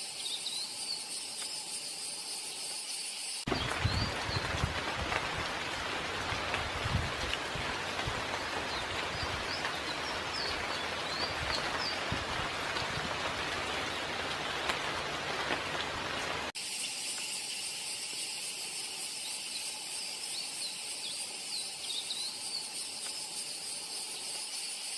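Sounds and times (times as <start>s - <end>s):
insect chorus: 0.0s - 24.9s
rain-like hiss: 0.0s - 24.9s.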